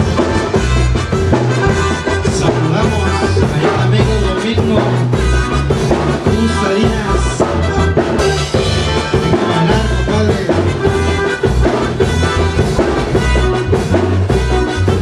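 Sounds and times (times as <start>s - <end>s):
bass and drum beat: 0.0s - 15.0s
live band playing: 0.0s - 15.0s.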